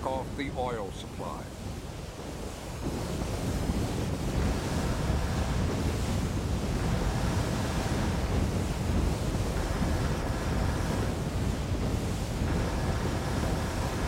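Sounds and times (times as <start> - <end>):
deep roar of burning well: 0.0 - 14.0.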